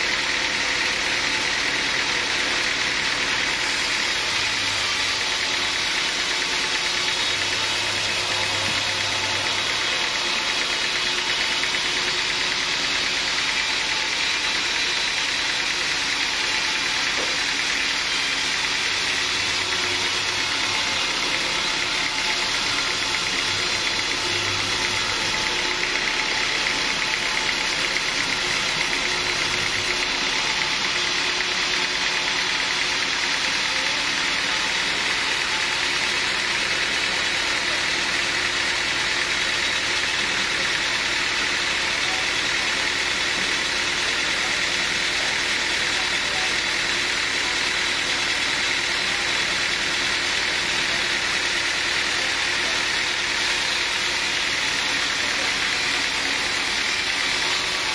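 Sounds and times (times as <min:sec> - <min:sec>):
sawmill machinery drone: 0:00.0 - 0:57.9.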